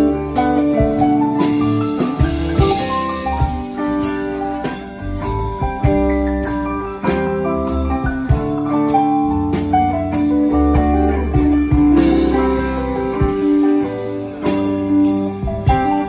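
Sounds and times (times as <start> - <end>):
drum kit: 0.0 - 16.0
electric bass: 0.0 - 16.0
electric guitar: 0.0 - 16.0
keyboards: 0.0 - 16.0.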